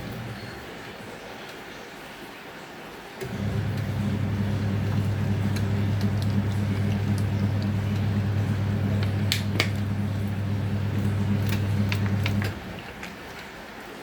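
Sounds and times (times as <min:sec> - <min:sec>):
washing machine motor humming: 0:00.0 - 0:01.1, 0:03.2 - 0:14.0.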